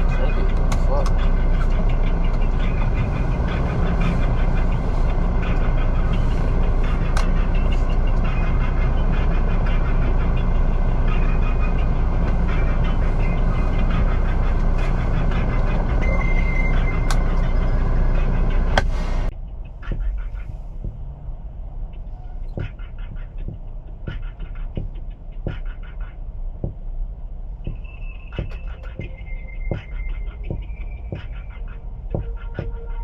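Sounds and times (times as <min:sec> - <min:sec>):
truck engine rumble: 0:00.0 - 0:33.0.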